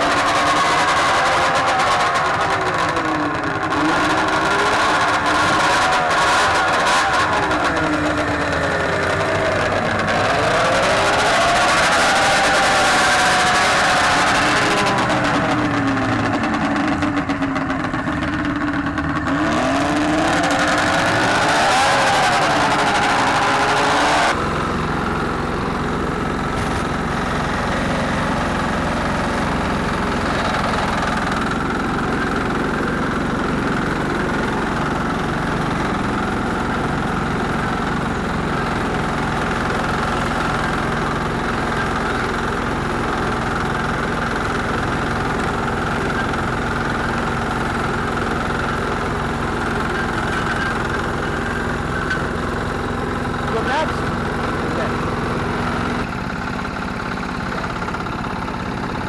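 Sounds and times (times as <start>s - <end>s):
louder engine shifting pitch: 0.0s - 59.0s
tractor engine idling: 0.0s - 59.0s.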